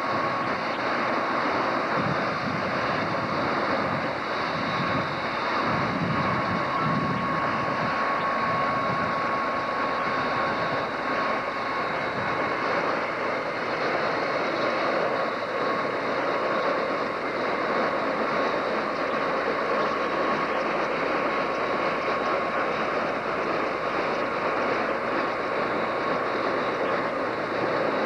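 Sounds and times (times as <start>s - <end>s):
constant high tone: 0.0s - 28.0s
helicopter engine and rotor: 0.0s - 28.0s.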